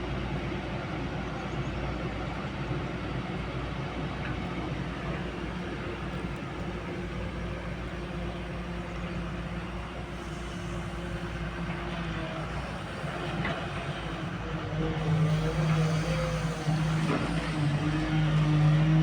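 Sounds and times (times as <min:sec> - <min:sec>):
excavator diesel engine running: 0:00.1 - 0:19.0.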